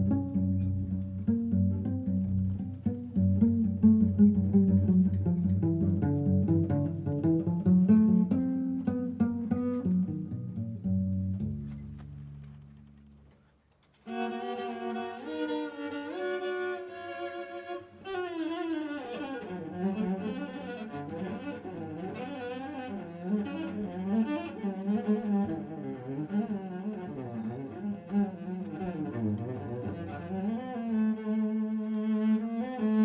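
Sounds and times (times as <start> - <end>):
bowed cello: 0.0 - 33.0.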